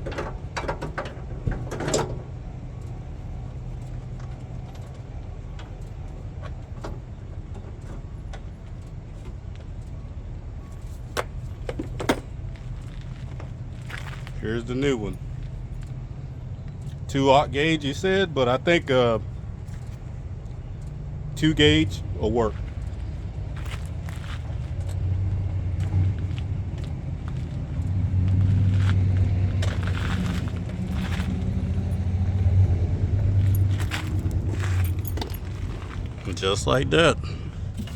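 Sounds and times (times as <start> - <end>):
low engine hum: 0.0 - 37.9
steady low rumble: 0.0 - 37.9.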